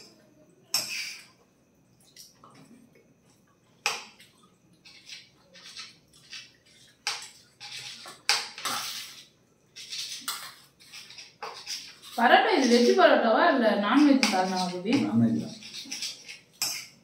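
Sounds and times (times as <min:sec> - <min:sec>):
spoons scraping and clinking plates: 0:00.7 - 0:01.4, 0:03.9 - 0:17.0.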